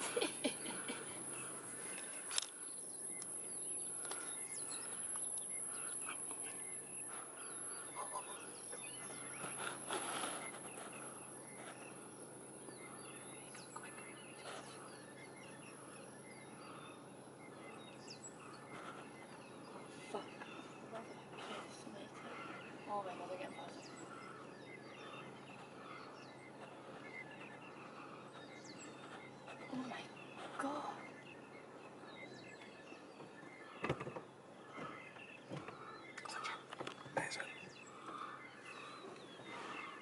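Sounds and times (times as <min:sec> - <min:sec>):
birds chirping: 0:00.0 - 0:40.0
low steady hum: 0:00.0 - 0:40.0.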